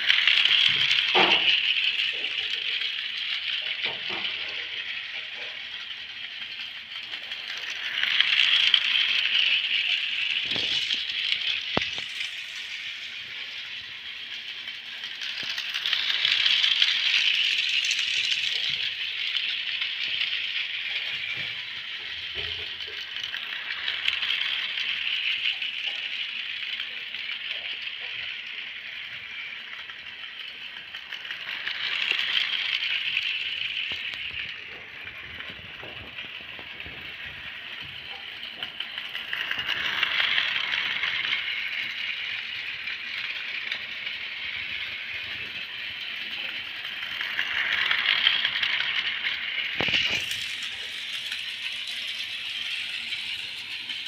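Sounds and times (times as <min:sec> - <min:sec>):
toy train rattling on track: 0:00.0 - 0:54.0.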